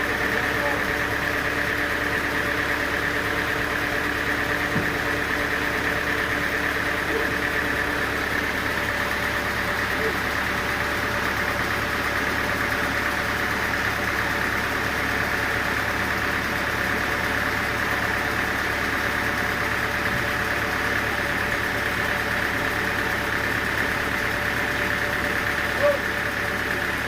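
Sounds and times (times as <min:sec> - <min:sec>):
engine-driven machinery running: 0:00.0 - 0:27.0.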